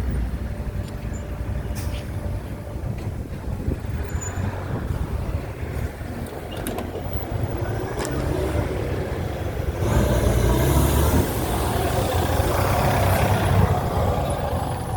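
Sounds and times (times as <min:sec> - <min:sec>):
bus diesel engine rumbling: 0:00.0 - 0:14.9.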